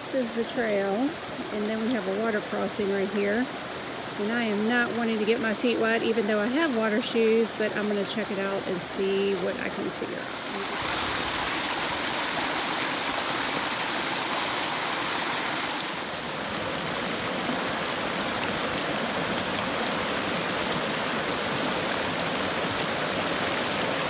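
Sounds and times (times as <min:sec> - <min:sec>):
stream splashing over rocks: 0:00.0 - 0:24.0.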